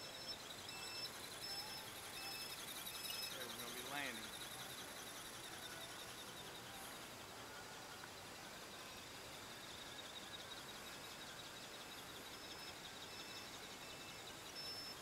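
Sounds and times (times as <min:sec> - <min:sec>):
faint background hiss: 0:00.0 - 0:15.0
faint high-pitched chirps: 0:00.0 - 0:15.0.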